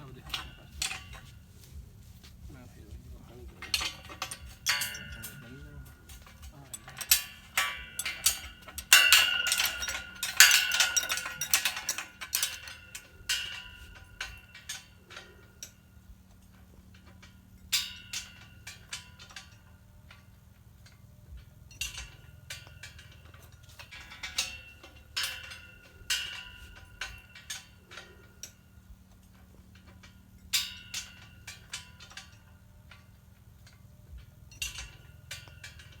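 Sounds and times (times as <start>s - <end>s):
faint low hum: 0.0s - 36.0s
metallic clinks and ticks: 0.0s - 36.0s.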